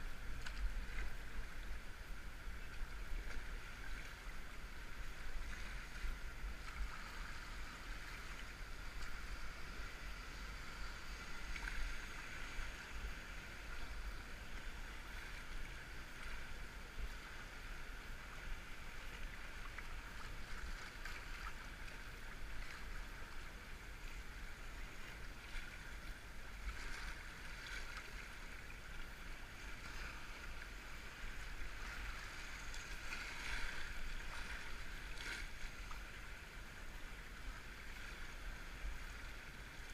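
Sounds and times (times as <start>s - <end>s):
muffled river water rushing: 0.0s - 39.9s.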